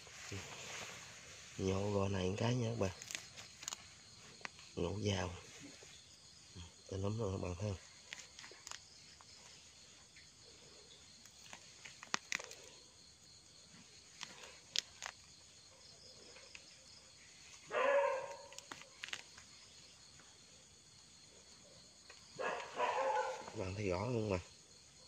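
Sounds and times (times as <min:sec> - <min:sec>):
faint insect chorus: 0:00.0 - 0:25.0.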